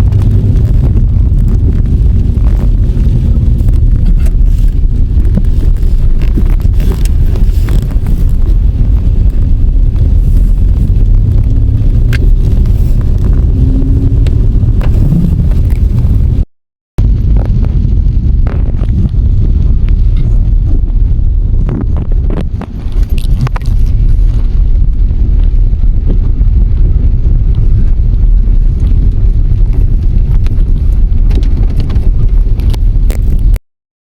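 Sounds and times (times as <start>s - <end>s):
loud low rumble: 0.0s - 33.6s.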